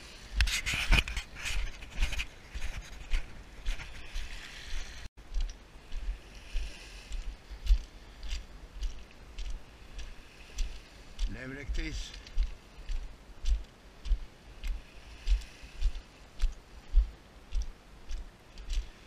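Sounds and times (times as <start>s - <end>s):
wind and water hiss: 0.0s - 19.0s
footsteps crunching on pebbles: 0.4s - 19.0s.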